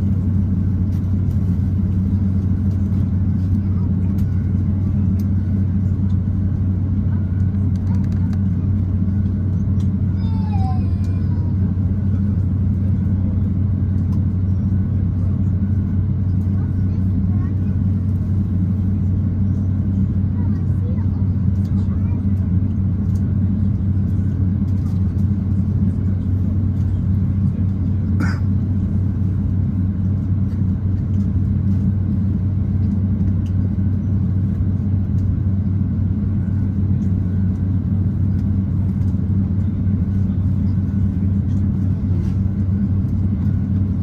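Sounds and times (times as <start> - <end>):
aircraft engines idling rumble: 0.0 - 44.0.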